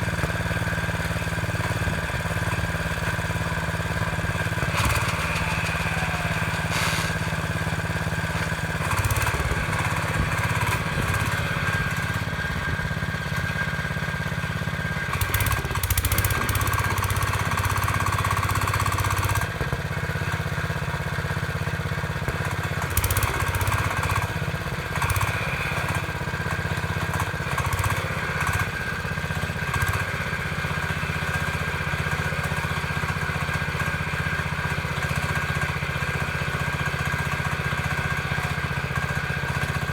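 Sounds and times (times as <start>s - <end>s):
small tractor engine running: 0.0s - 39.9s.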